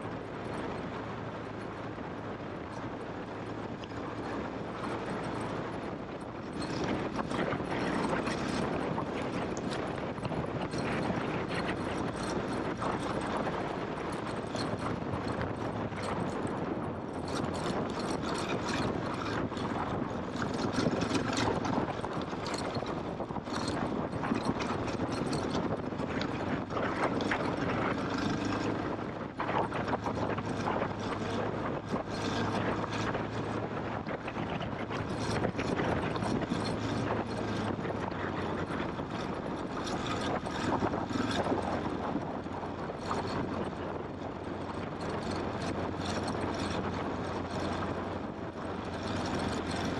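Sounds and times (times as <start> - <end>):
motorcycle engine at low revs: 0.0 - 49.9.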